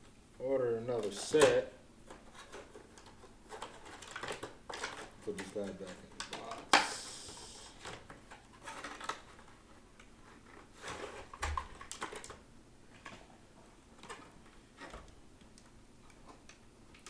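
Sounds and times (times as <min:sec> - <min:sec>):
packaging rustling and clicking: 0:01.0 - 0:13.3, 0:13.9 - 0:17.0.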